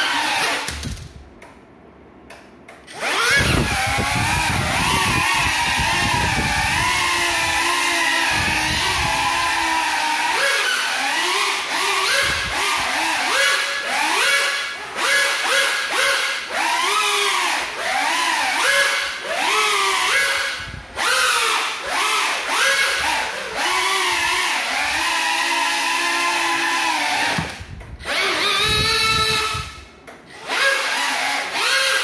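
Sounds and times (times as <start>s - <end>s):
quadcopter motors whining: 0.0s - 1.0s, 2.9s - 32.0s.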